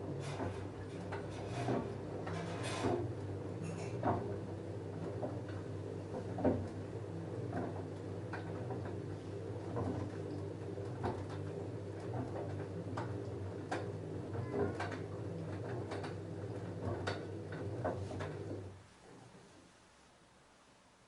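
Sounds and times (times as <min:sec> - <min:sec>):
washing machine motor humming: 0:00.0 - 0:19.5
clicks and knocks of tumbling load: 0:00.1 - 0:18.8.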